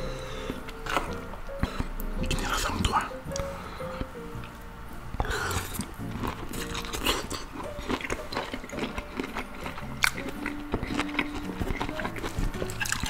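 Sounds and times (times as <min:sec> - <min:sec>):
soft background music: 0:00.0 - 0:13.0
close chewing with wet crunches: 0:00.4 - 0:04.6, 0:05.2 - 0:13.0.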